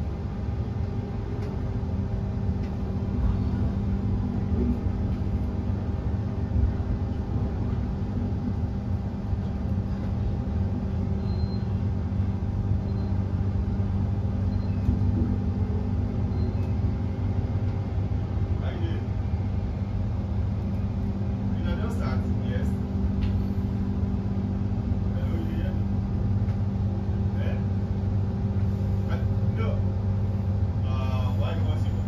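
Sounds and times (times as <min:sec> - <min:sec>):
electric hum: 0:00.0 - 0:32.0
train carriage rumble: 0:00.0 - 0:32.0.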